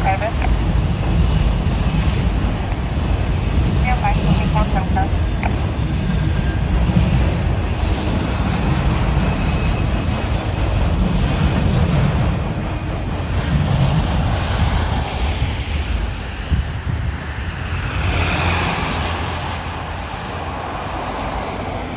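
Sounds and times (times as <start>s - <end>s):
train rolling past: 0.0s - 21.9s
wind buffeting microphone: 0.0s - 21.9s.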